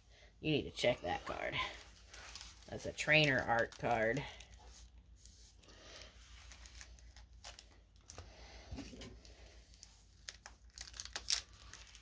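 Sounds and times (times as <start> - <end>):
foil packs crinkling: 1.1 - 8.3, 9.0 - 12.0.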